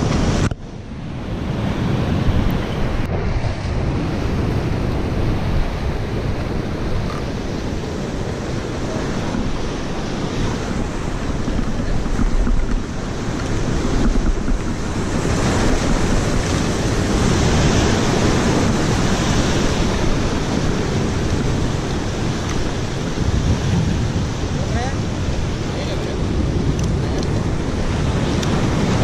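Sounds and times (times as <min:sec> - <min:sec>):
sea surf breaking over rocks: 0:00.0 - 0:29.0
wind buffeting microphone: 0:00.0 - 0:29.0.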